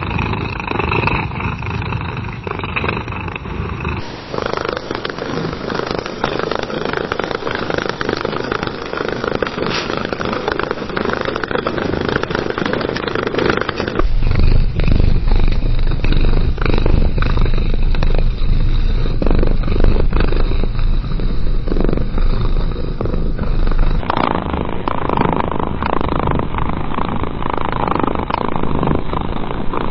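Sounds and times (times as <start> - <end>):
cat purring: 0.0 - 29.9
deeper cat purr: 0.0 - 29.9.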